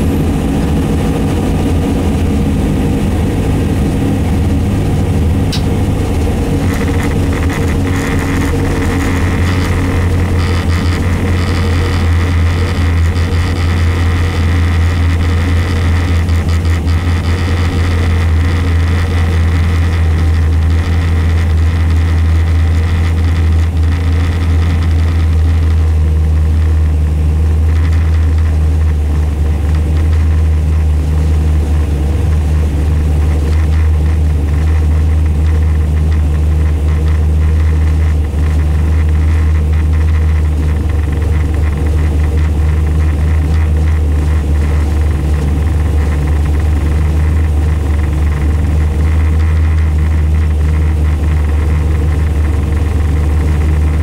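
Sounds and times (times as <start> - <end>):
race car engine idling: 0.0 - 54.0.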